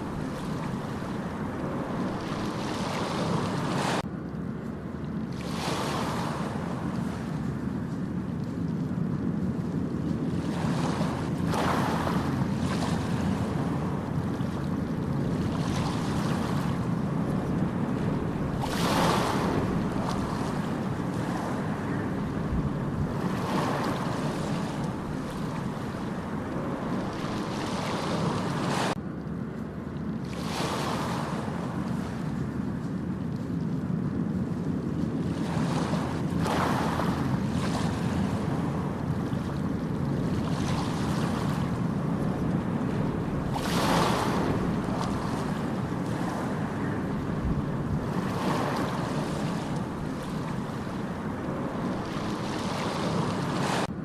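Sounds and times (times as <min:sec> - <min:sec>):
ocean waves breaking: 0:00.0 - 0:54.0
wind rumble on microphone: 0:00.0 - 0:54.0.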